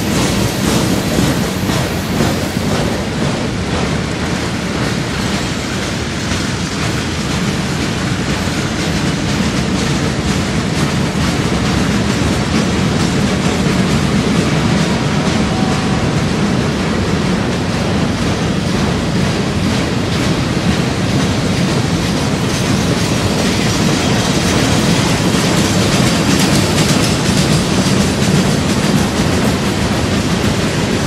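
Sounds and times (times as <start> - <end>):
steel wheels rumbling on rails: 0.0 - 31.0
wheels clicking over rails: 0.0 - 31.0.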